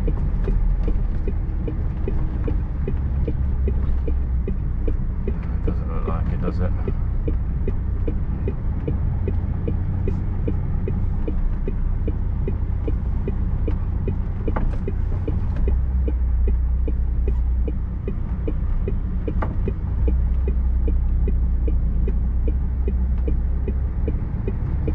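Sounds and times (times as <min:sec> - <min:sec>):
diesel engine drone: 0:00.0 - 0:24.9
regular ticking: 0:00.0 - 0:24.9.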